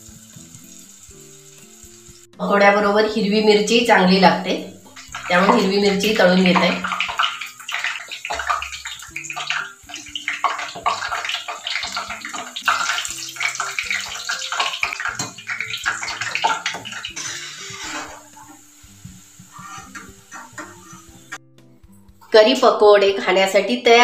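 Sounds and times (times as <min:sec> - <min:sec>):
hot oil sizzling and crackling: 0:00.0 - 0:02.4, 0:03.2 - 0:22.3.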